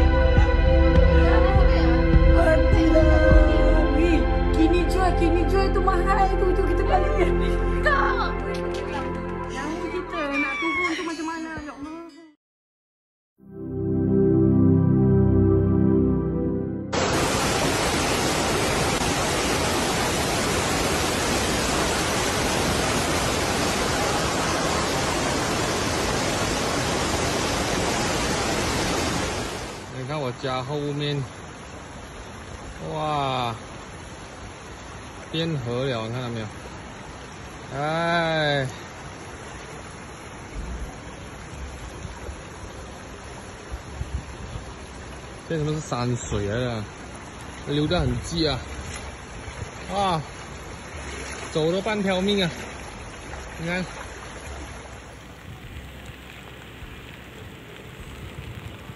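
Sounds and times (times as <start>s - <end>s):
floodwater rushing: 0.0s - 11.5s, 13.7s - 58.9s.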